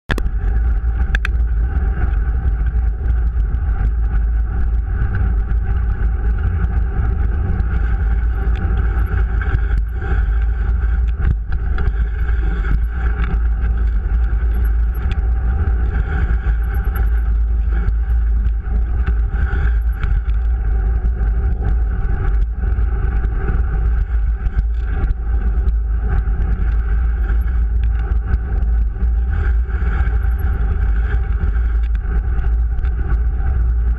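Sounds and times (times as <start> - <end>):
low rumble of wind and vibration: 0.0 - 33.9.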